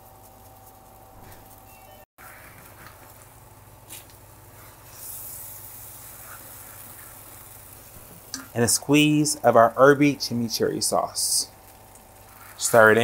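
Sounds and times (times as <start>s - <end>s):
cooking hiss: 0.0s - 13.0s.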